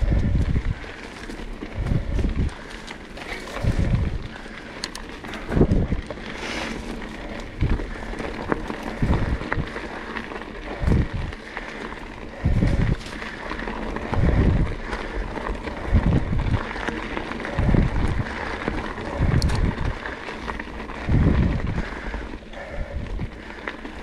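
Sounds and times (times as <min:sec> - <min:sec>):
bike tyres on dirt trail: 0:00.0 - 0:24.0
wind buffeting microphone: 0:00.0 - 0:24.0.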